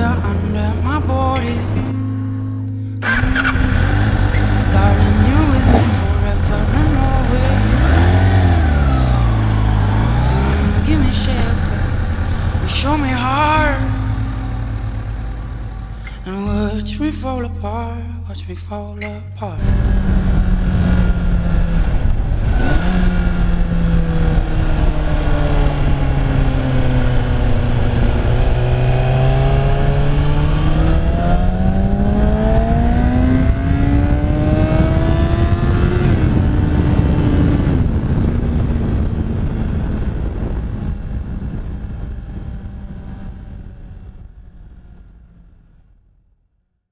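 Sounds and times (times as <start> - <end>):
motorcycle engine running: 0.0 - 18.2, 19.5 - 45.5
wind rush: 3.0 - 16.3, 19.6 - 44.4.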